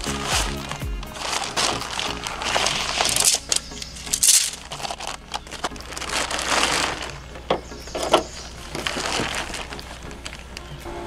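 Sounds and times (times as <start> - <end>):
nylon tent fabric rustling: 0.0 - 10.8
tent poles and buckles clicking: 0.0 - 10.8.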